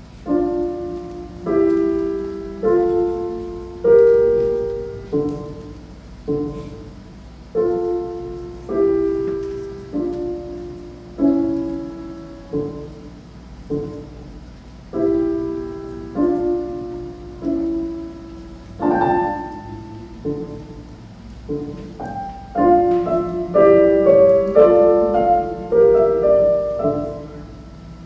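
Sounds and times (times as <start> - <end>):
slow piano chords: 0.0 - 28.0.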